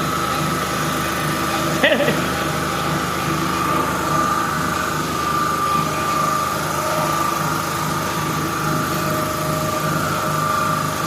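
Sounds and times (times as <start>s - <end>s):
low hum: 0.0s - 11.0s
motor whining: 0.0s - 11.0s.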